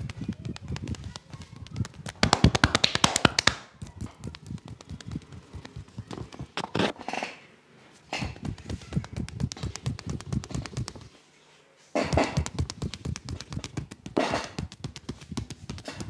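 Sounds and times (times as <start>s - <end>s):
hands tapping and slapping body: 0.0s - 6.7s, 8.2s - 11.2s, 12.0s - 16.0s.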